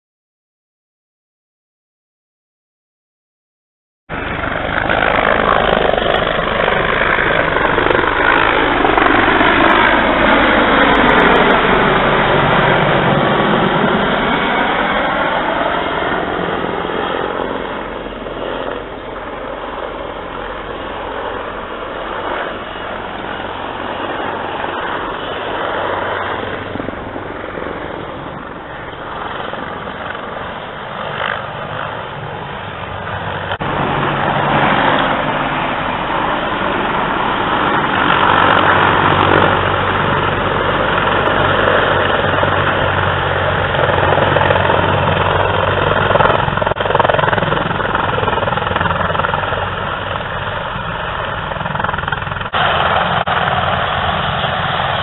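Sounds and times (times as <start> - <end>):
helicopter rotor and turbines: 4.1 - 55.0.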